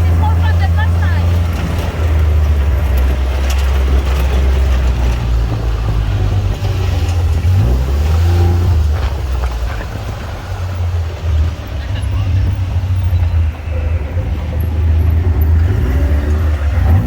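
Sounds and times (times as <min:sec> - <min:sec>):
utv engine driving: 0:00.0 - 0:17.0.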